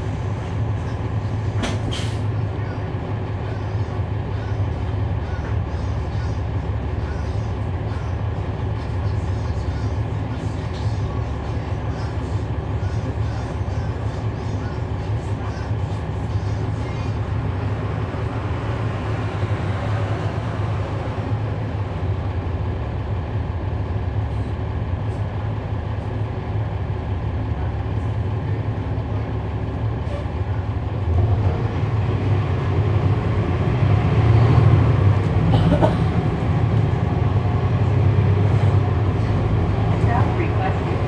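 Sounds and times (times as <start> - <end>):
diesel bus engine drone: 0.0 - 41.0.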